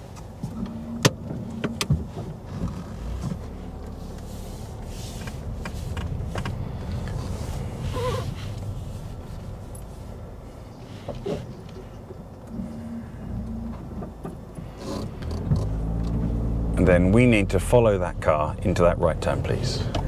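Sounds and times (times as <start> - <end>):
car engine and cabin noise: 0.0 - 20.0.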